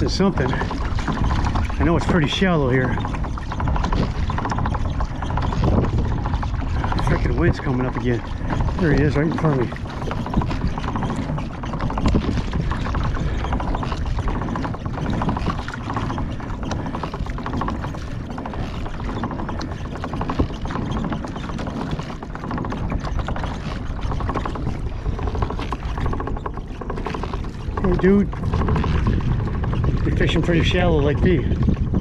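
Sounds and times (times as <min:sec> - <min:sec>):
water lapping in shallows: 0:00.0 - 0:32.0
wind rumbling on microphone: 0:00.0 - 0:32.0.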